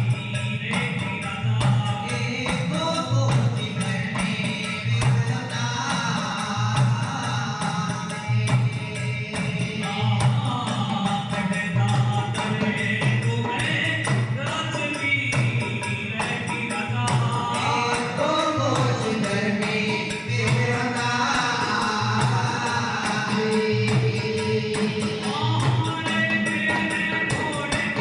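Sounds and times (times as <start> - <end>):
jingling percussion: 0.0 - 28.0
steady drum beat: 0.0 - 28.0.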